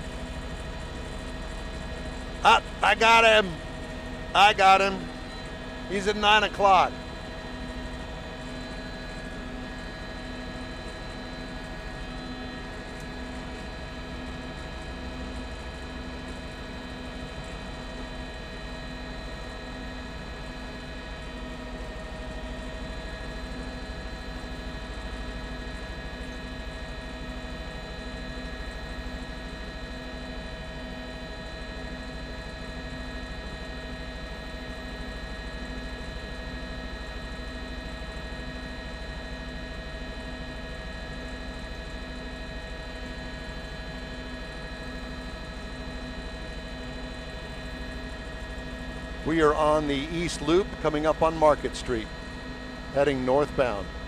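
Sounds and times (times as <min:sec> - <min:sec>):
helicopter drone from inside cabin: 0:00.0 - 0:54.0.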